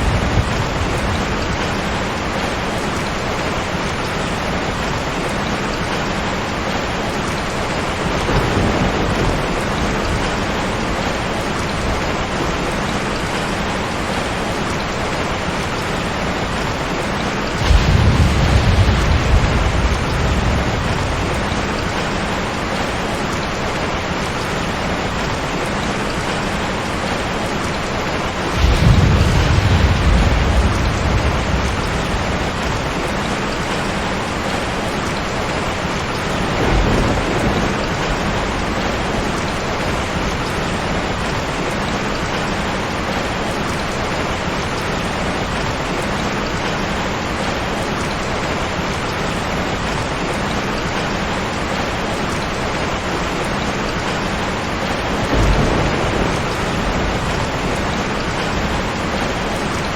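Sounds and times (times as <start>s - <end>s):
thunder rumbles: 0.0s - 46.1s, 51.5s - 59.9s
heavy rain hissing: 0.0s - 59.9s.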